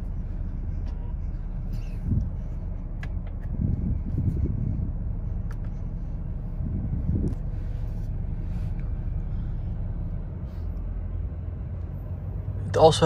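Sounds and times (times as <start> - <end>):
diesel engine rumble: 0.0 - 13.0.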